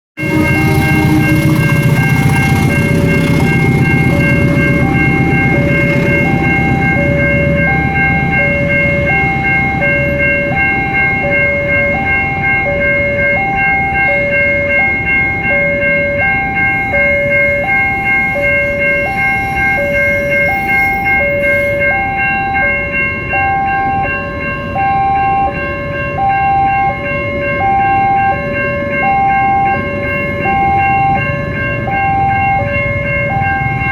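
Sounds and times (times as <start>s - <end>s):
level crossing two-tone alarm: 0.2s - 33.9s
steady high-pitched tones: 0.2s - 33.9s.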